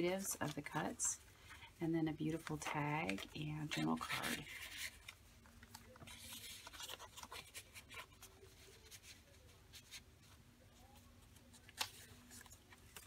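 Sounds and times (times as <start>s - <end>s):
paper rustling and scraping: 2.3s - 13.0s.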